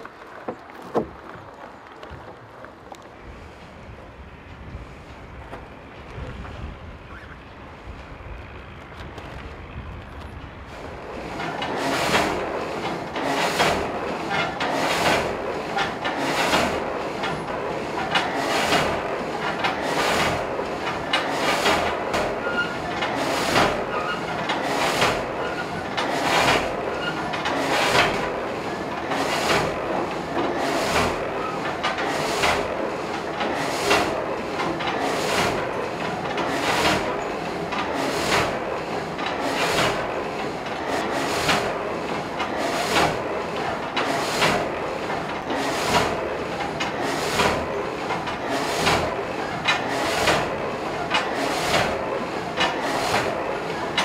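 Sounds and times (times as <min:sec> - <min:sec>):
machinery rumble: 0:00.0 - 0:54.0
saw frame rasping clatter: 0:10.7 - 0:54.0.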